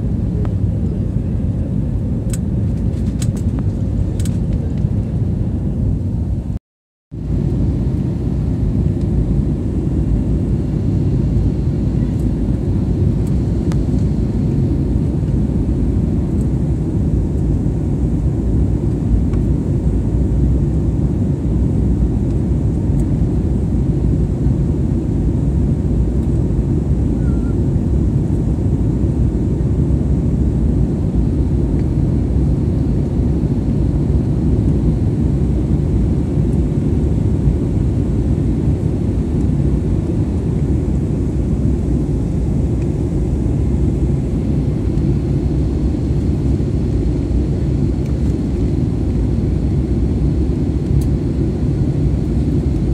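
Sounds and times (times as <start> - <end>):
jet engines rumbling in cabin: 0.0 - 6.6, 7.2 - 52.9.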